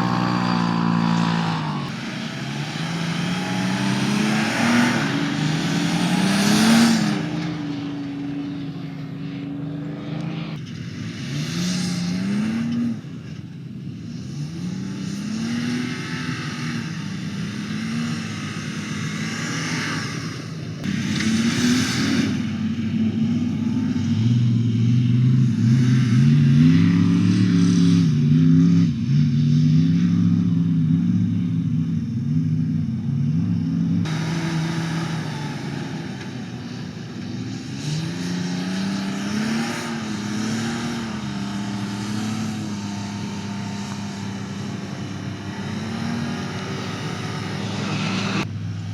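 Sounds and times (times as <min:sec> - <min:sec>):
engine revving under load: 0:00.0 - 0:31.8, 0:33.2 - 0:48.9.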